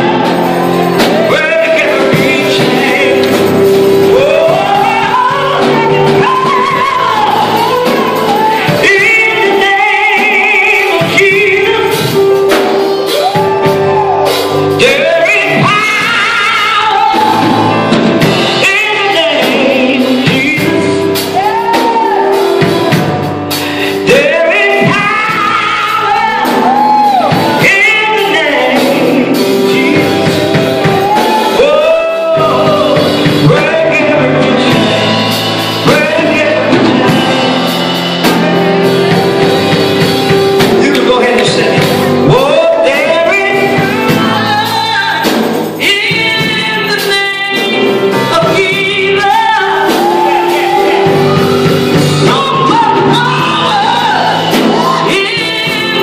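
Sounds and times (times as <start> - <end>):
drums: 0.0 - 56.0
keyboard chord: 0.0 - 56.0
person singing gospel: 0.0 - 56.0.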